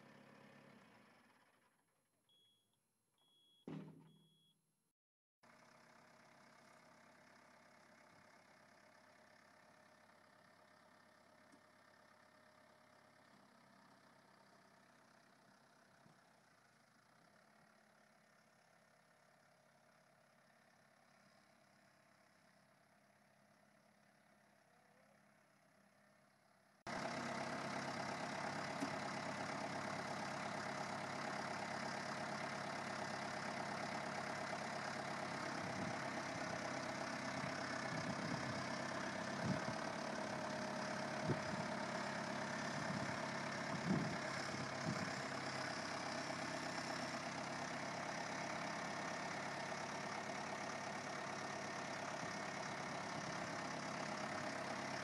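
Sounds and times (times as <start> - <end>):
tractor diesel engine idling: 0.0 - 2.6, 5.5 - 55.0.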